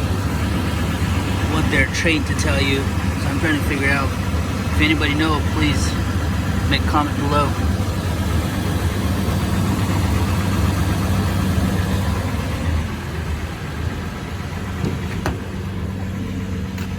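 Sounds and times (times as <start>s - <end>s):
engine running with knocking: 0.0s - 16.9s.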